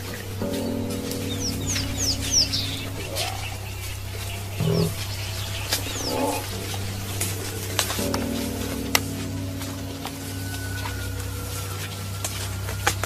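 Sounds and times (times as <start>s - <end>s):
birds chirping falling notes: 0.0s - 13.0s
steady low hum: 0.0s - 13.0s.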